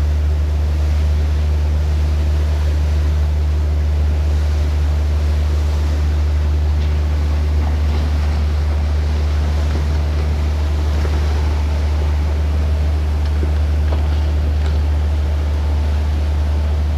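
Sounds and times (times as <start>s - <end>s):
ferry engine drone: 0.0s - 16.9s
water noise: 0.0s - 16.9s
wind: 0.0s - 16.9s.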